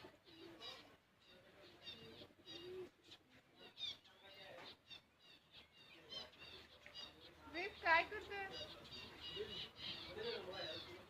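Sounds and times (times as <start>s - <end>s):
lower bird calls: 0.0s - 11.0s.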